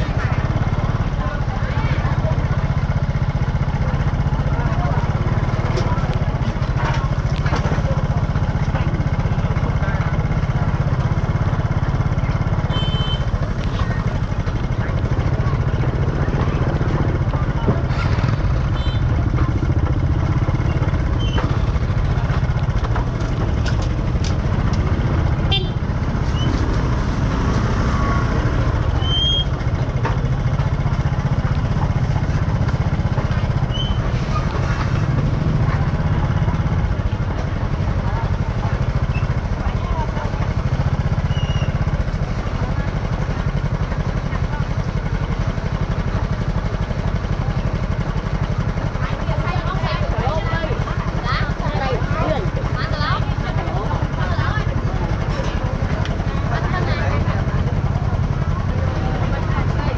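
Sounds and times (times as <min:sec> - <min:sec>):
faint background voices: 0:00.0 - 0:59.9
motorbike engines passing: 0:00.0 - 0:59.9.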